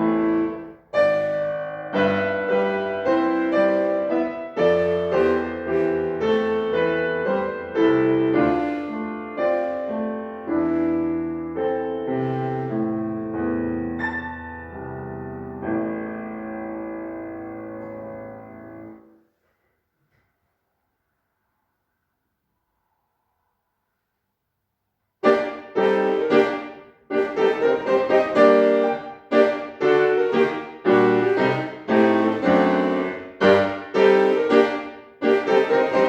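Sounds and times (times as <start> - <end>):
solo piano classical piece: 0.0 - 19.2, 25.2 - 36.0.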